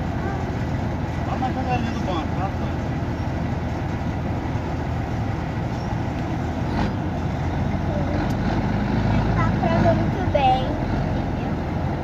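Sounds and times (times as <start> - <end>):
road noise: 0.0 - 12.0
truck diesel engine running: 0.0 - 12.0.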